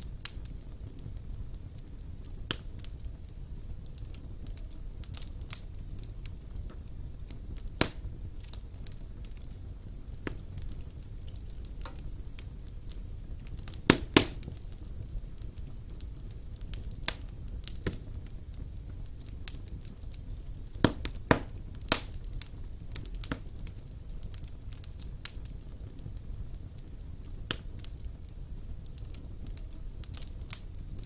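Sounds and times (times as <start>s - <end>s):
burning logs crackling and popping: 0.0s - 31.0s
fire flames rumbling: 0.0s - 31.0s.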